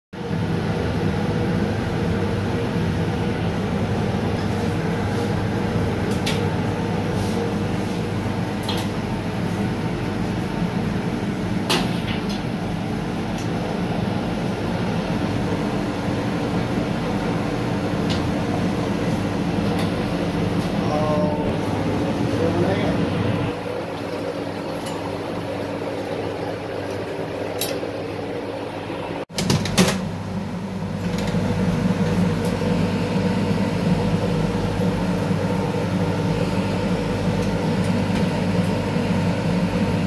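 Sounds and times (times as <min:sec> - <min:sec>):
blower fan humming: 0:00.2 - 0:40.0.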